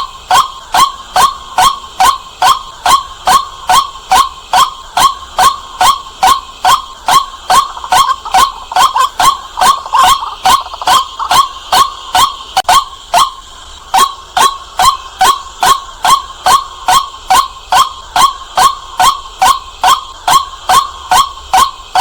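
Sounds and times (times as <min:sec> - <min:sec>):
bird repeated call: 0:00.0 - 0:22.0.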